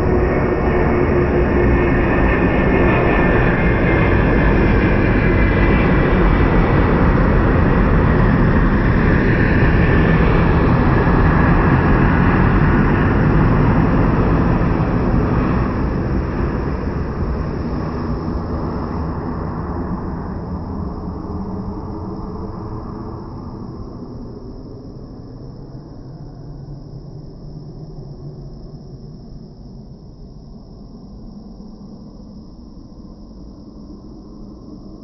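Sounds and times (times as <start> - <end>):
jet engines passing overhead: 0.0 - 35.0.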